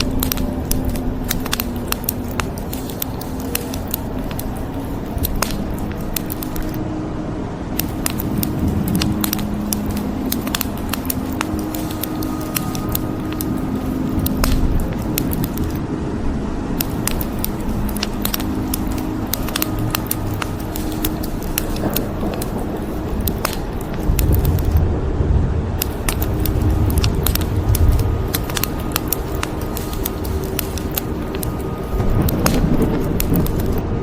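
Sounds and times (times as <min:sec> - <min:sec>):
wood fire crackling: 0:00.0 - 0:06.8, 0:07.6 - 0:24.9, 0:25.7 - 0:34.0
rain rushing: 0:00.0 - 0:34.0.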